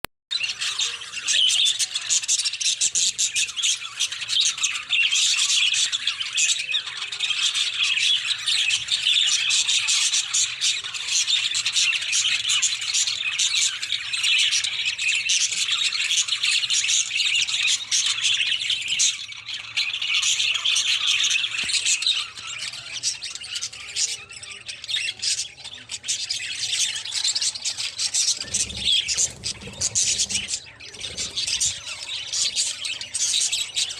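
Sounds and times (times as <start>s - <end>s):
budgerigars chattering: 0.4s - 33.9s.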